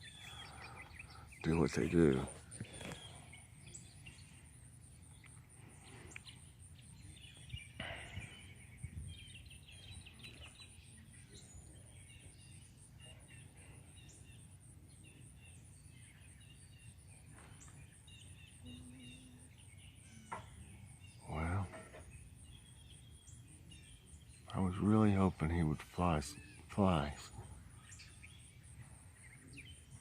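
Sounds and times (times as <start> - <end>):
distant songbirds chirping: 0.0 - 30.0.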